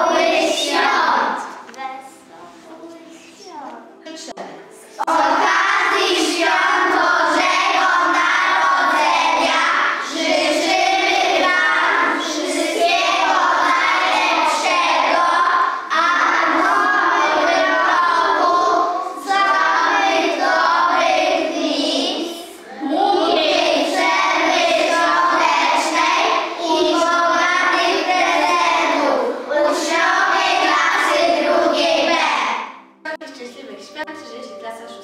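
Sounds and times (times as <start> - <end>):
children singing together: 0.0 - 1.6, 4.9 - 32.8.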